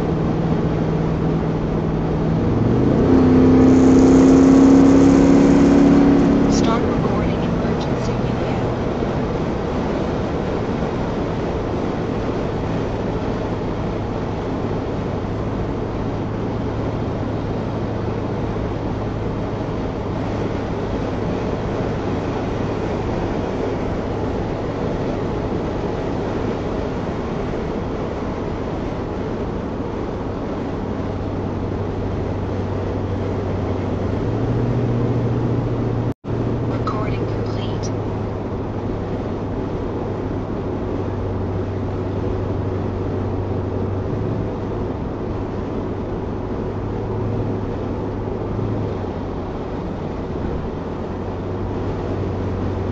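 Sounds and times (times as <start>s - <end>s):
car engine drone: 0.0s - 52.9s
wind and road noise: 0.0s - 52.9s.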